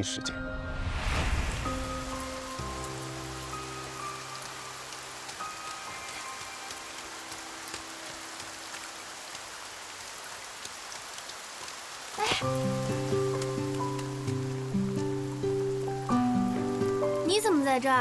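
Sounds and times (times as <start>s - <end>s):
soft background music: 0.0s - 9.5s, 12.4s - 18.0s
heavy rain on pavement: 1.0s - 18.0s.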